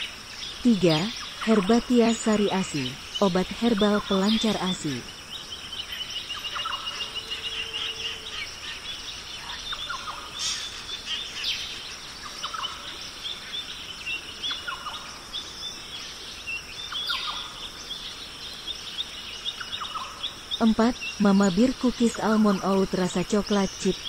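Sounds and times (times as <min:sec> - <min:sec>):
birds chirping: 0:00.0 - 0:24.0
steady hiss: 0:00.0 - 0:24.0.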